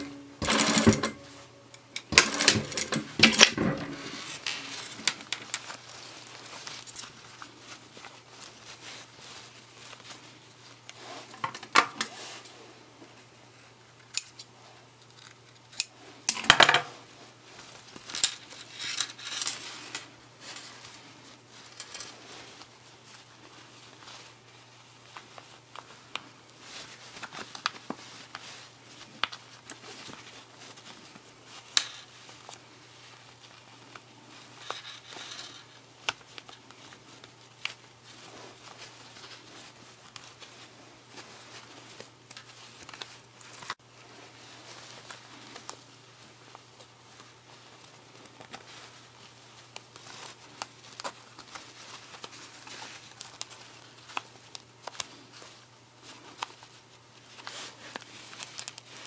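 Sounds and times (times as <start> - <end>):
cloth rustling: 0.0 - 11.3, 17.0 - 59.0.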